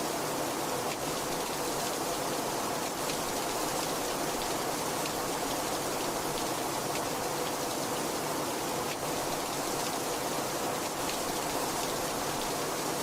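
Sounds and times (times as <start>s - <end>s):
raindrops ticking on a surface: 0.8s - 8.0s, 8.8s - 13.0s.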